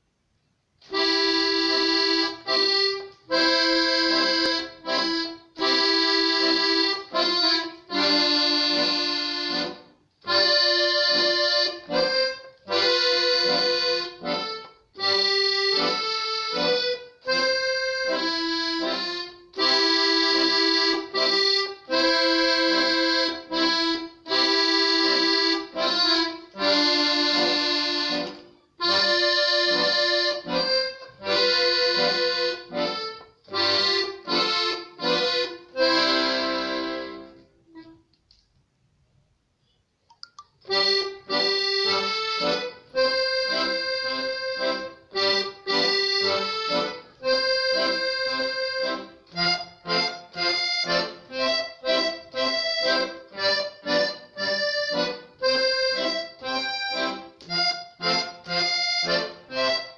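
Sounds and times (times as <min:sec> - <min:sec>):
piano accordion folk tune: 0:00.8 - 0:38.2, 0:40.6 - 0:59.9.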